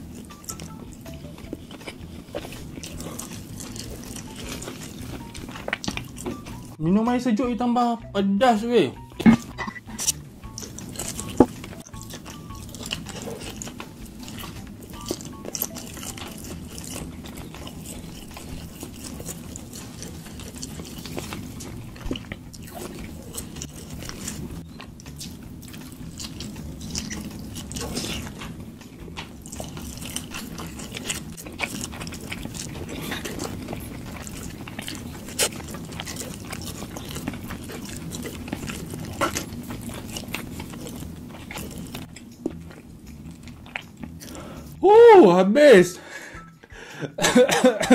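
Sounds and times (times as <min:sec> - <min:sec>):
person chewing meat: 0:00.0 - 0:06.8, 0:09.0 - 0:44.9.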